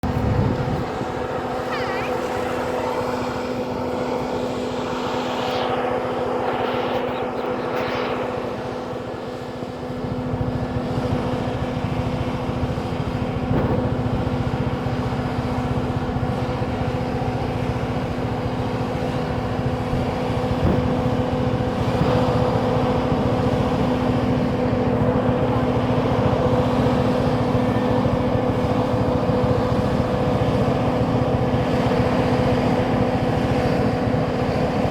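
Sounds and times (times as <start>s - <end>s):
heavy low rumble: 0.0s - 31.6s
road roller engine running: 0.0s - 34.9s.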